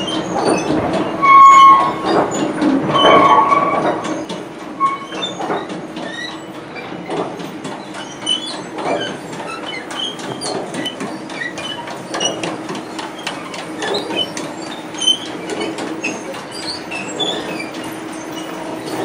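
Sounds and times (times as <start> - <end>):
short irregular squeaks: 0.0 - 19.0.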